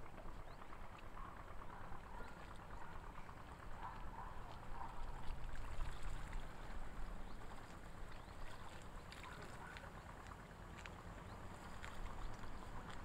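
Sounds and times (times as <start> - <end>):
sea water lapping and splashing: 0.0 - 13.0
steady low rumble: 0.0 - 13.0.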